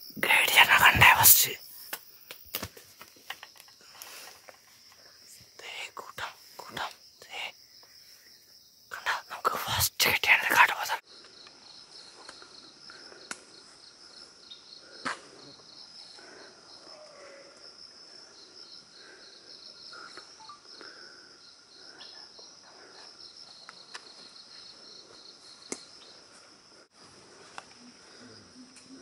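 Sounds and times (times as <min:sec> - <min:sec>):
insects chirping in pulsing trill: 0:00.0 - 0:29.0.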